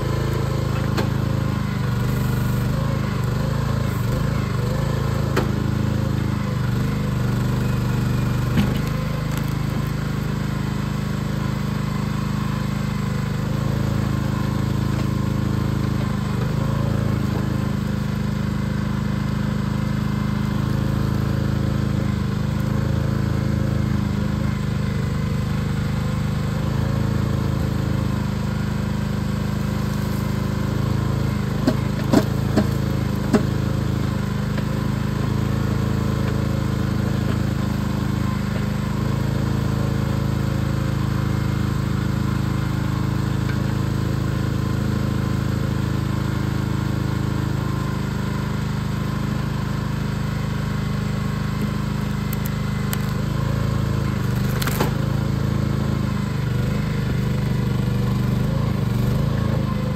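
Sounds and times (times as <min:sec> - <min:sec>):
small gasoline engine running: 0:00.0 - 0:59.9.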